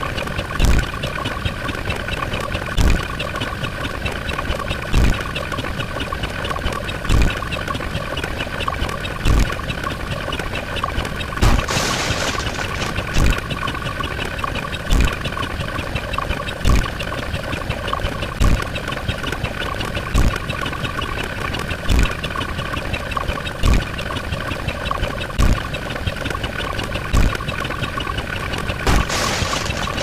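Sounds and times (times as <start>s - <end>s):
engine-like hum with rapid pulse: 0.0s - 30.0s.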